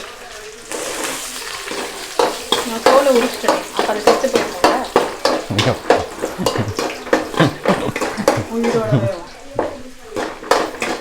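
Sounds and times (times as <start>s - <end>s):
garlic sizzling in oil: 0.0s - 11.0s
spoon scraping a pan: 0.7s - 11.0s.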